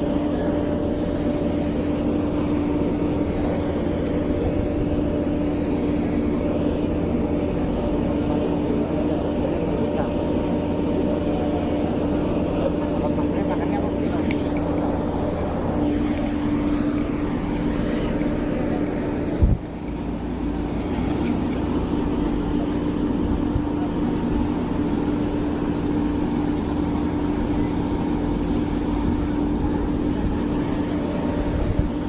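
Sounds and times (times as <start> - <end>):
aircraft turbine hum and whine: 0.0 - 32.0.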